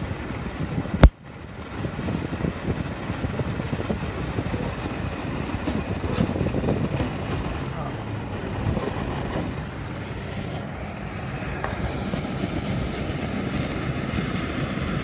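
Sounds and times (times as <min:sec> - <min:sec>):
exhaust fan air rush: 0:00.0 - 0:15.0.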